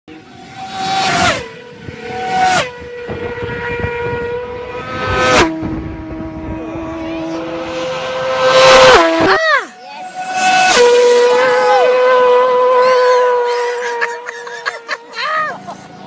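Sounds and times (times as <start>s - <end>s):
racing motorcycles passing: 0.1s - 16.0s.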